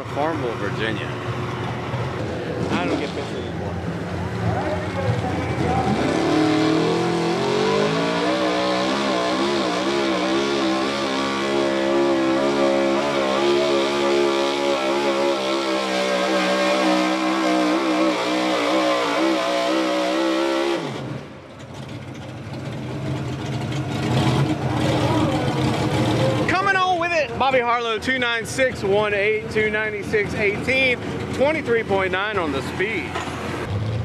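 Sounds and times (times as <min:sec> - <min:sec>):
truck engine at full throttle: 0:00.0 - 0:34.0.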